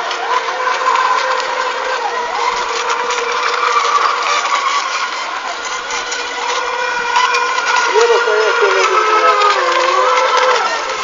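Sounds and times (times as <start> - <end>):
electric boat motors whining: 0.0 - 11.0.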